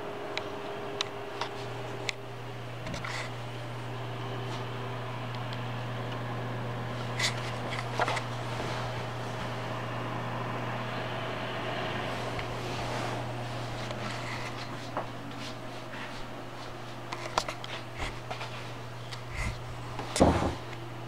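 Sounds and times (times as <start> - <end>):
computer cooling fans whirring: 0.0 - 21.0.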